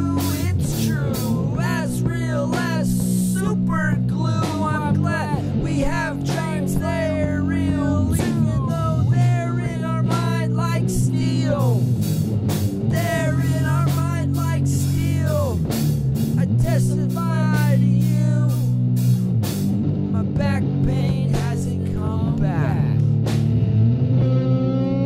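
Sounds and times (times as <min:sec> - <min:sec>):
drum beat: 0:00.0 - 0:23.6
bass notes: 0:00.0 - 0:25.0
electric guitar lead: 0:00.0 - 0:25.0.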